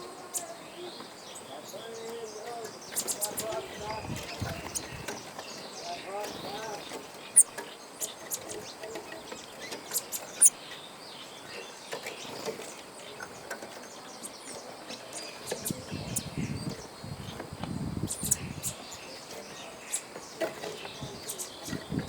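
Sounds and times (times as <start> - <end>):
small birds chirping: 0.0 - 22.0
steady outdoor background: 0.0 - 22.0.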